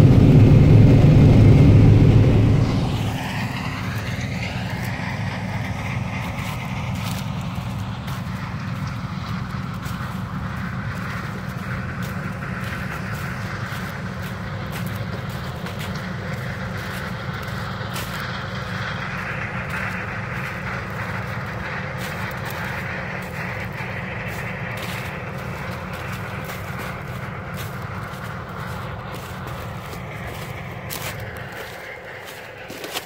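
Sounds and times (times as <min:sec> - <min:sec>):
farm machinery engine drone: 0:00.0 - 0:33.0.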